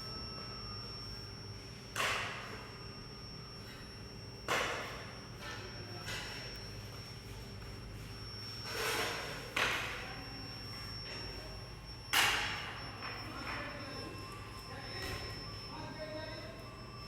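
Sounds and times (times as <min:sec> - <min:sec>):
furnace humming and whining: 0:00.0 - 0:17.0.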